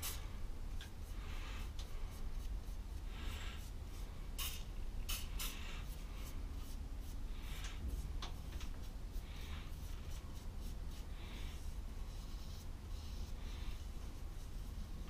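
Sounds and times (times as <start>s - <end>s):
steady low hum: 0.0s - 15.0s
small brush scratching on plaster: 0.9s - 15.0s.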